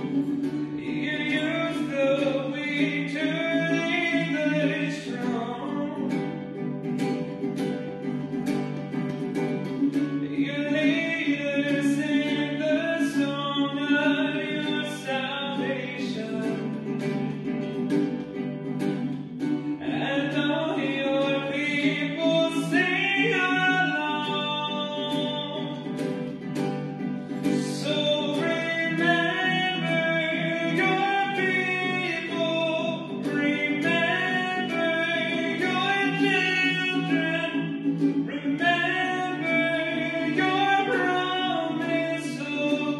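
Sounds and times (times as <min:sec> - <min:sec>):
acoustic guitar chords: 0:00.0 - 0:42.9
person singing: 0:00.0 - 0:42.9.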